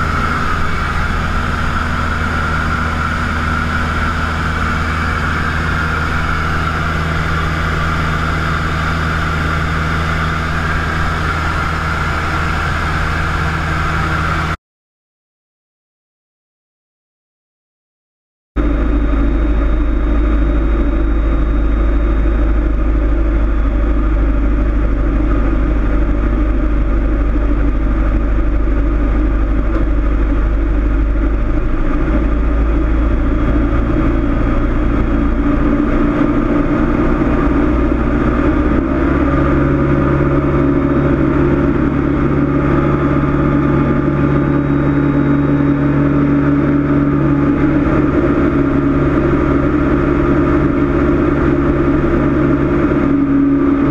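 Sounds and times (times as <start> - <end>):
aircraft engine and propeller droning: 0.0 - 14.6, 18.6 - 53.9.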